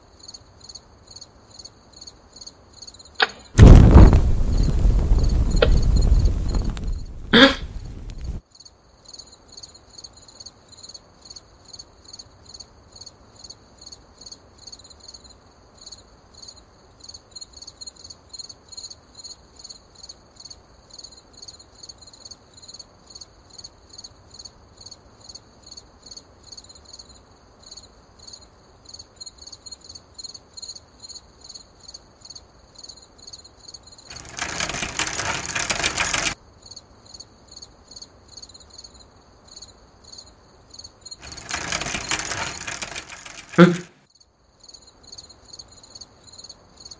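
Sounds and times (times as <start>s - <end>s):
crickets chirping: 0.0s - 7.2s, 8.4s - 43.4s, 44.1s - 46.9s.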